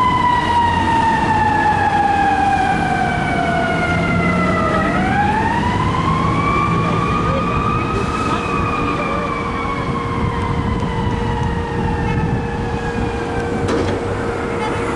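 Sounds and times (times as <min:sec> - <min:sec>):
fire engine siren wailing: 0:00.0 - 0:14.9
truck engine rumble: 0:00.0 - 0:14.9.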